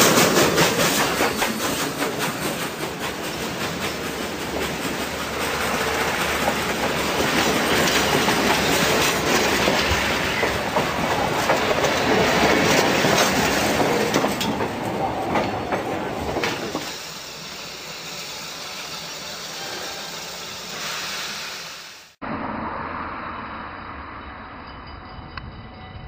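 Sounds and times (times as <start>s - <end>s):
train coaches rolling past: 0.0s - 26.0s.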